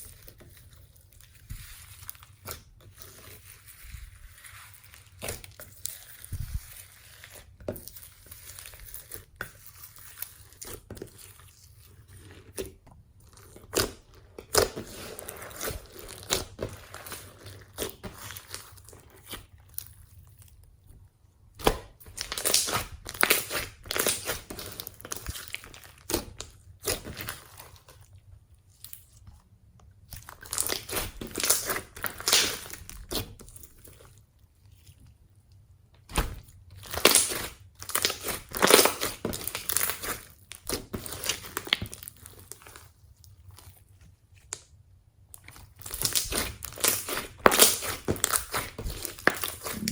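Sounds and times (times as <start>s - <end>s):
hands kneading slime with beads: 0.0s - 49.9s.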